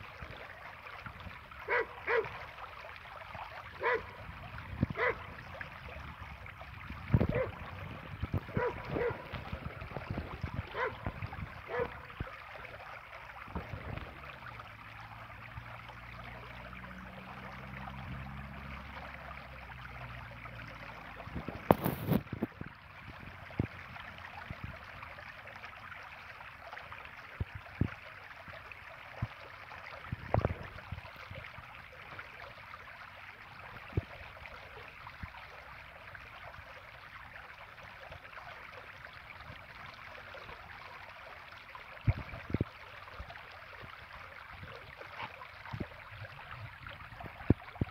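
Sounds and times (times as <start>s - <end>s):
water trickling in stone channel: 0.0s - 47.9s.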